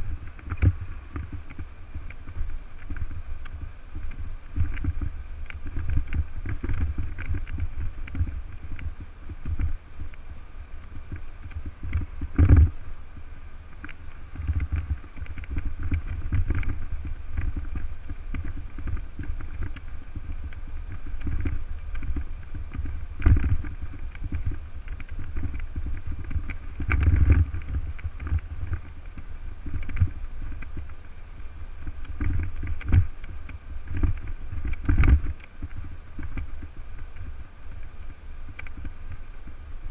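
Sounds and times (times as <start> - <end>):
bike rumbling over rough asphalt: 0.0 - 39.9
wind buffeting microphone: 0.0 - 39.9.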